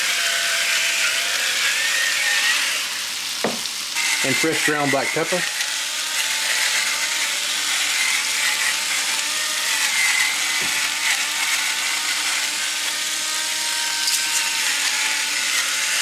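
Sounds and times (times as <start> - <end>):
potatoes sizzling on griddle: 0.0 - 15.4
electric pepper mill grinding: 0.0 - 16.0.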